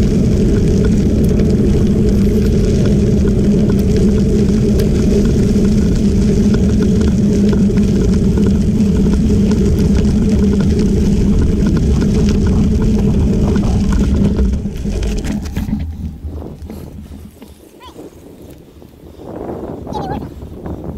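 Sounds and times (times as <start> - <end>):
tyres on gravel: 0.0 - 18.8
wind rumble: 0.0 - 20.9.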